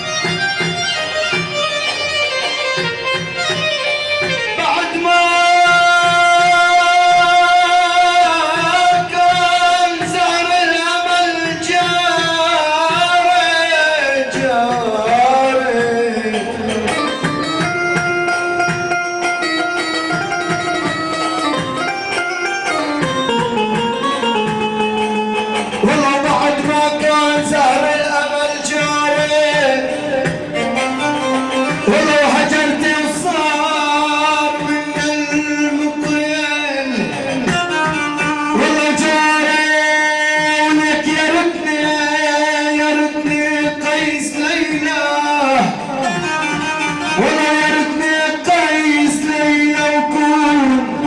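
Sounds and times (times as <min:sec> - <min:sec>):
band playing gliding melody: 0:00.0 - 0:51.0.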